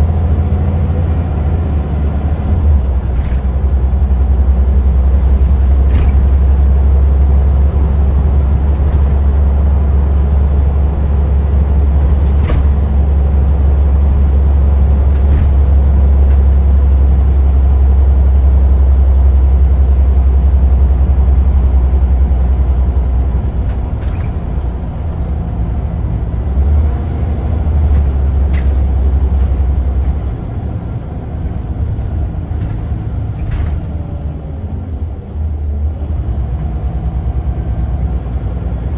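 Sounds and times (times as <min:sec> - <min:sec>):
bus engine rumble: 0:00.0 - 0:38.9.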